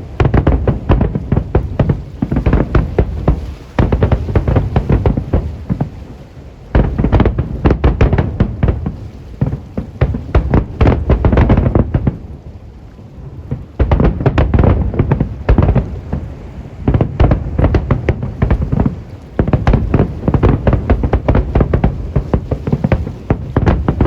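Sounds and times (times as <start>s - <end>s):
deep firework booms: 0.0s - 6.1s, 6.7s - 12.4s, 13.2s - 24.0s.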